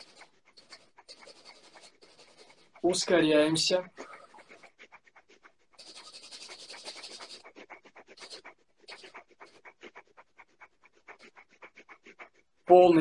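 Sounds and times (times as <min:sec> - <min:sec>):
rapid forceful nasal breathing: 0:00.0 - 0:13.0.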